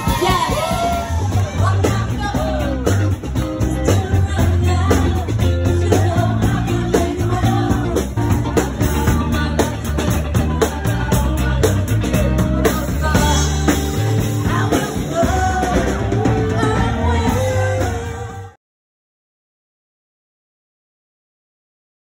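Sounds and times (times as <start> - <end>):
heavy bass: 0.0 - 18.6
person singing: 0.0 - 18.6.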